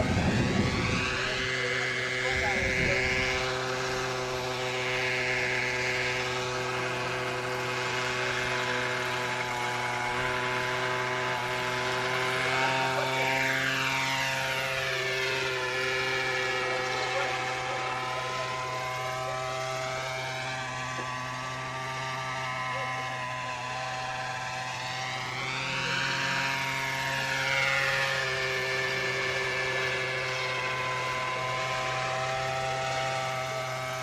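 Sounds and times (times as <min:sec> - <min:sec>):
rc helicopter engine and rotor: 0:00.0 - 0:34.0.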